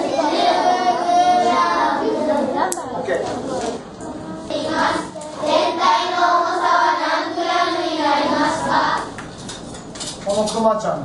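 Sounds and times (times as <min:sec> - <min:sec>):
children reading aloud in unison: 0:00.0 - 0:09.1.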